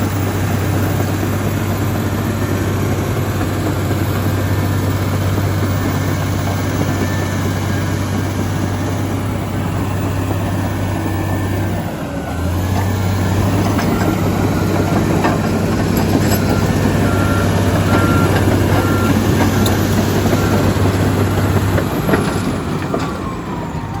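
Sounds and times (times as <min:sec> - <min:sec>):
bulldozer diesel engine drone: 0:00.0 - 0:24.0.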